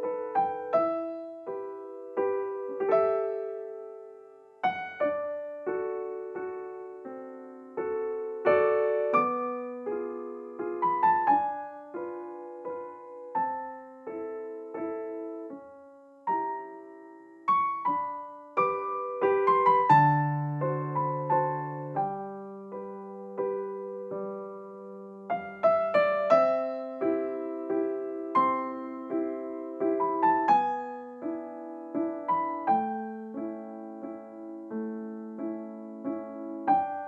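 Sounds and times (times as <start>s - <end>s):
soft piano music: 0.0s - 37.0s.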